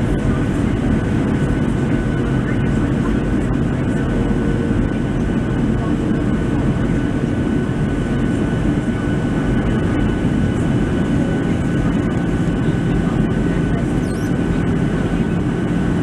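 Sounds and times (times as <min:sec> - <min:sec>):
jet engines and air rush rumble: 0:00.0 - 0:16.0.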